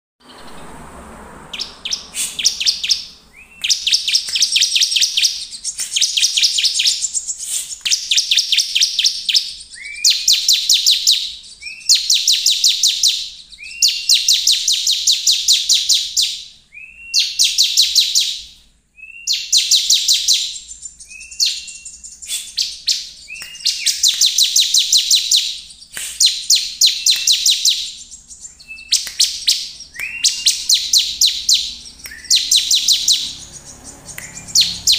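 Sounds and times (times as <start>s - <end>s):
bird singing fast dry trills: 1.5s - 18.4s, 19.0s - 34.9s.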